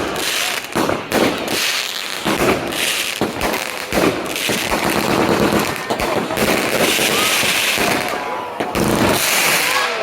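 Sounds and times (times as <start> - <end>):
firecrackers banging: 0.0 - 10.0.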